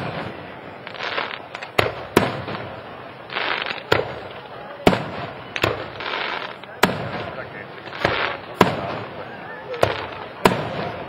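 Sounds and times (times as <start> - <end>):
firework shells bursting: 0.0 - 9.2.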